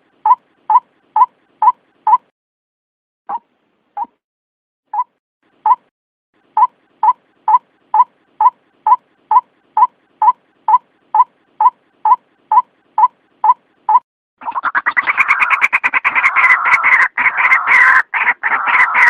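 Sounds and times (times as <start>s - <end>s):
repeated bird call: 0.1s - 2.3s, 4.9s - 19.0s.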